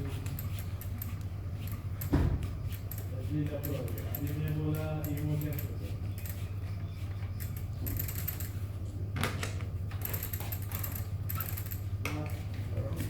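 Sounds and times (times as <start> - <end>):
rapid clicking of bicycle parts: 0.0 - 8.6, 9.2 - 13.0
steady low hum: 0.0 - 13.0.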